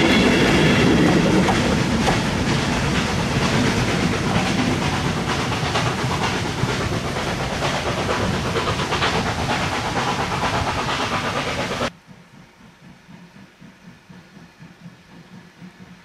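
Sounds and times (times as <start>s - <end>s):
steam hiss and exhaust: 0.0s - 16.0s
wheels clattering on rails: 0.0s - 16.0s.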